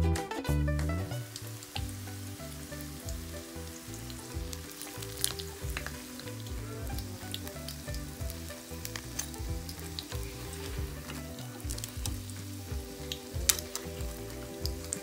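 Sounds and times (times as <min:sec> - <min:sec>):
oil sizzling in a frying pan: 0:00.8 - 0:15.0.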